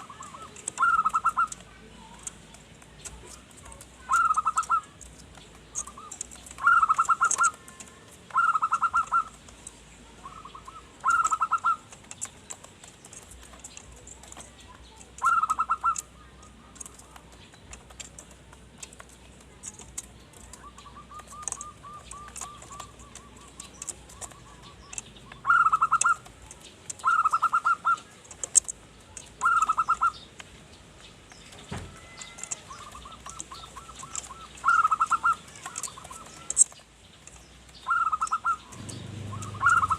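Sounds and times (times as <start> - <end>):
dove cooing: 0.0 - 18.3, 18.9 - 30.3, 31.8 - 36.8, 37.8 - 39.9.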